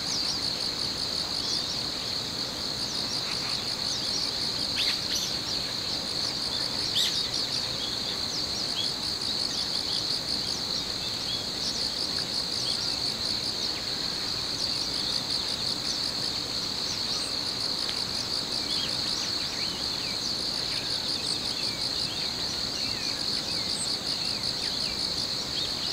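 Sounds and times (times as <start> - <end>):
crickets trilling: 0.0 - 25.9.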